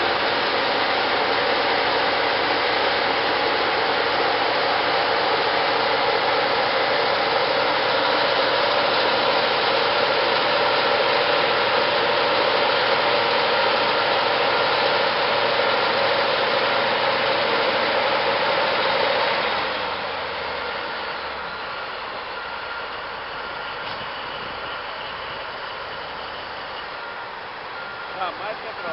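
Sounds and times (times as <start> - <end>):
truck diesel engine droning: 0.0 - 28.9.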